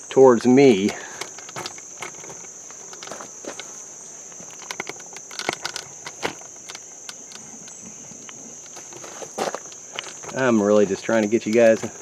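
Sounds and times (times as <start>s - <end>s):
crickets trilling: 0.0s - 12.0s
tools clicking and tapping: 0.7s - 12.0s.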